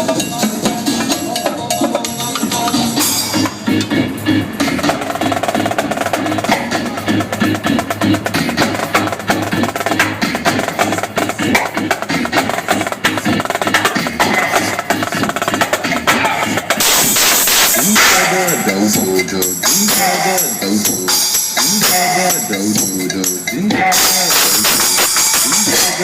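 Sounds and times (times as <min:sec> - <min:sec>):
dance music track: 0:00.0 - 0:26.0
fast live drumming: 0:00.0 - 0:26.0.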